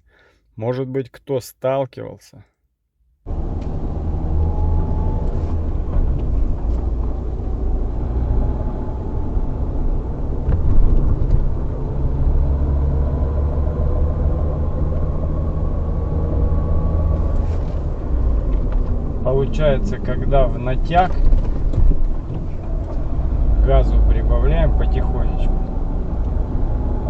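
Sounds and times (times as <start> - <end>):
engine and road rumble: 3.3 - 27.0.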